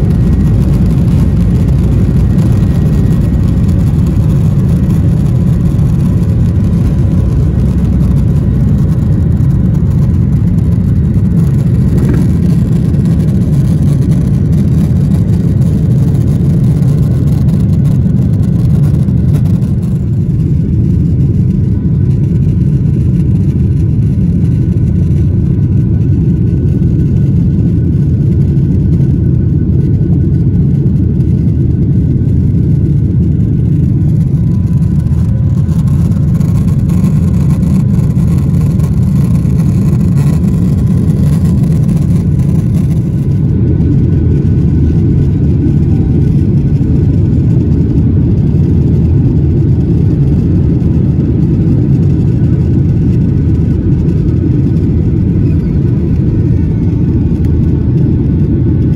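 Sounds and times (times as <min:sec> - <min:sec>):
faint whining tones: 0:00.0 - 0:58.9
jet engine rumble in cabin: 0:00.0 - 0:58.9.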